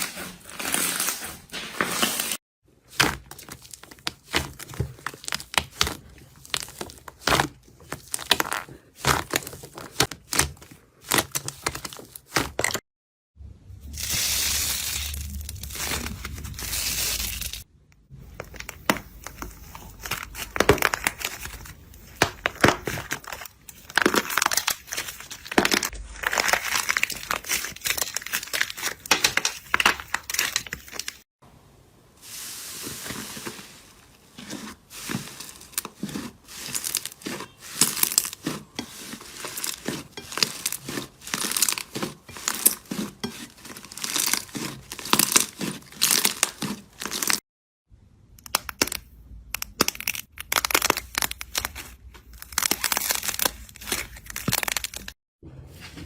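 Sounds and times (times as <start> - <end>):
slime crackling and squelching: 0.0 - 12.8, 13.9 - 31.3, 32.2 - 47.4, 49.6 - 55.2.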